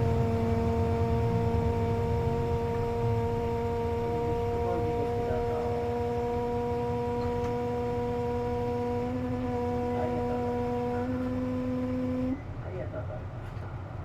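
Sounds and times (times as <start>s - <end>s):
bus air conditioning whine: 0.0s - 14.0s
bus engine rumble: 0.0s - 14.0s.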